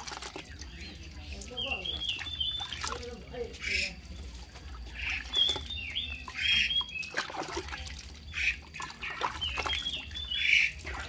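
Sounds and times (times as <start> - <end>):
water dripping into a plastic basin: 0.0 - 11.0.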